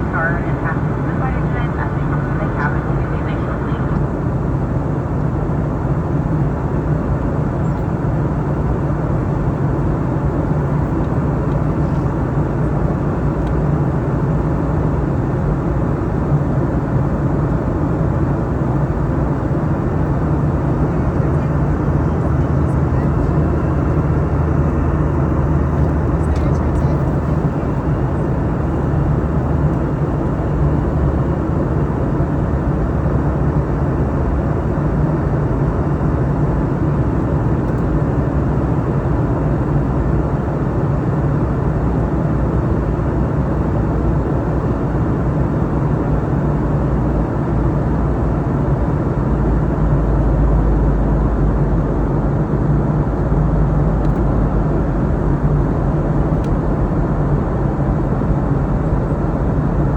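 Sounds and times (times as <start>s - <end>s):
aircraft cabin engine and airflow noise: 0.0s - 59.9s.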